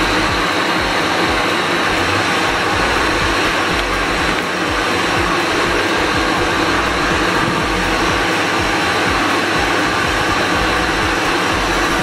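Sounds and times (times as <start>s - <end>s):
upright vacuum cleaner running: 0.0s - 12.0s.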